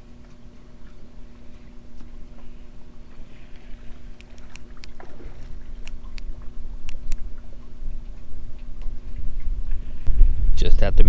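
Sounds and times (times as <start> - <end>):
faint constant hum: 0.0 - 11.0
low outdoor rumble: 0.0 - 11.0.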